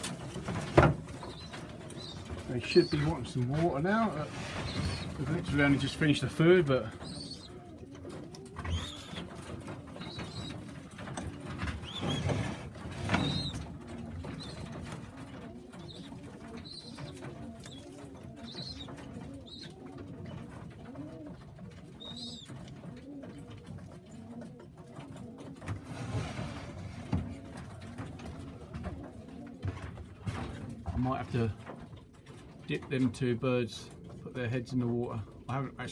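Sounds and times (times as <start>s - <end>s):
pigeons cooing: 0.0s - 35.9s.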